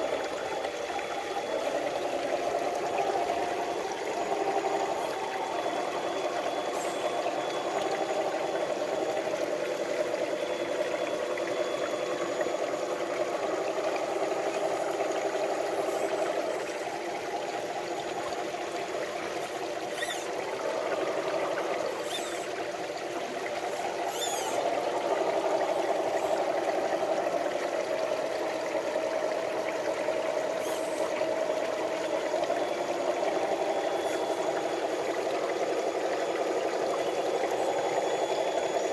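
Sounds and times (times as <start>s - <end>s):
electric motors whining: 0.0s - 38.9s
trickling shallow stream: 0.0s - 38.9s.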